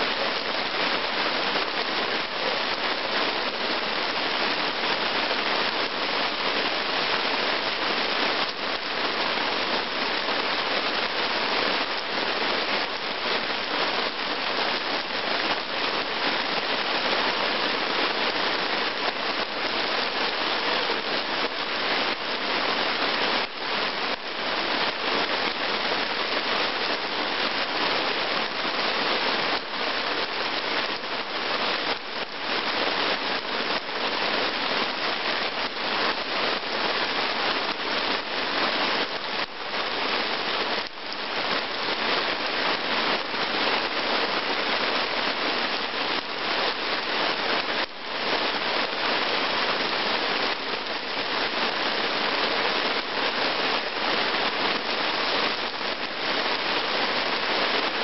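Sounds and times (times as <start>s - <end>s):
heavy rain on puddles: 0.0s - 58.0s.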